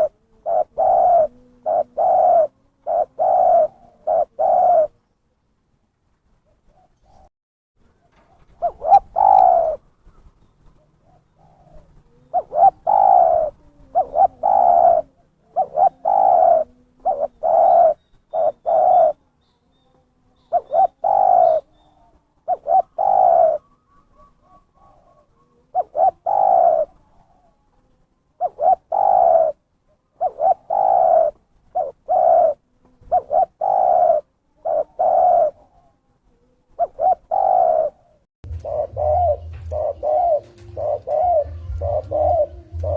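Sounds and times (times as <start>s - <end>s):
dove cooing: 0.0s - 5.0s, 6.4s - 42.9s.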